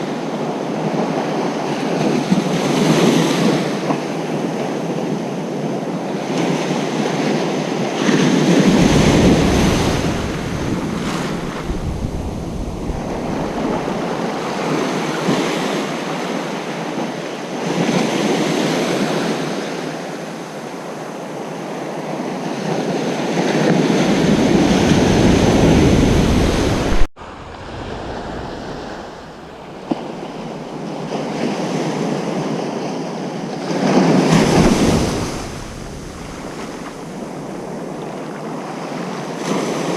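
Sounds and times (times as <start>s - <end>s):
wind rumble on microphone: 0.0s - 18.0s, 22.6s - 39.9s
ocean surf breaking on beach: 0.0s - 39.9s.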